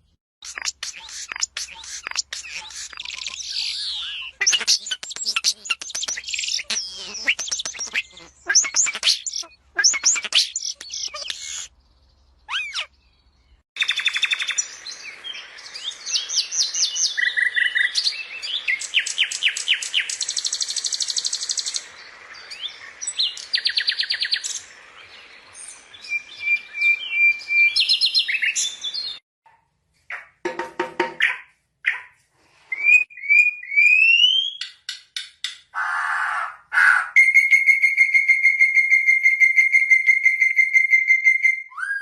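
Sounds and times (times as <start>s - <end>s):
birds chirping and trilling: 0.0s - 29.2s, 35.7s - 42.0s.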